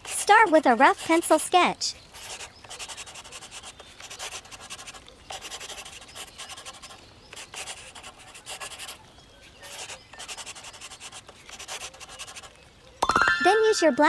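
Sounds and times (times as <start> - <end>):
pencil sketching on paper: 0.0 - 1.4, 2.2 - 12.5.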